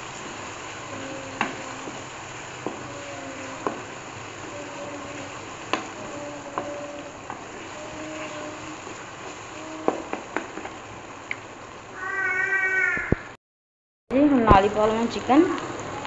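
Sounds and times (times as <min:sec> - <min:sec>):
masala sizzling in a pot: 0:00.0 - 0:12.6, 0:14.1 - 0:16.0.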